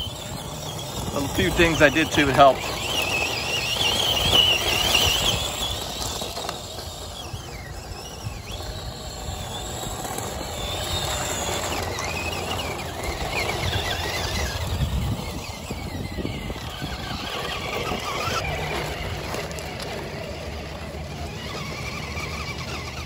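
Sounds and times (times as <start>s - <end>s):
toy truck motor whine: 0.0s - 23.0s
tyres crunching on gravel: 0.0s - 23.0s.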